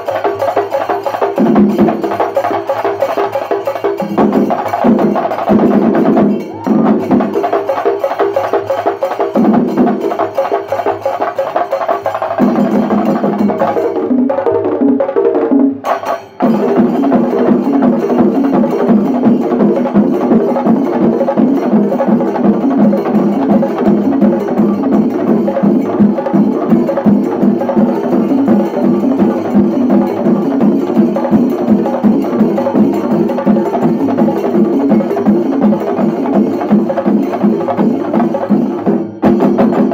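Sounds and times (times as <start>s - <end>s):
cymbals: 0.0s - 14.0s, 15.8s - 39.9s
drums beaten with sticks: 0.0s - 39.9s.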